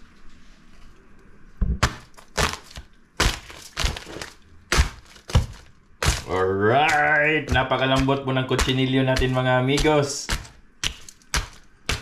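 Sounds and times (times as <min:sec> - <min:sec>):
plate chopping crisp pork skin: 0:01.8 - 0:12.0.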